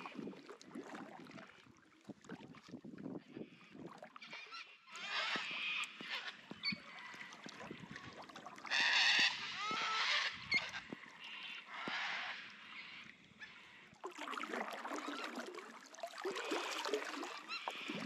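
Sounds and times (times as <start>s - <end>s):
paddle dipping in water: 0.0s - 18.0s.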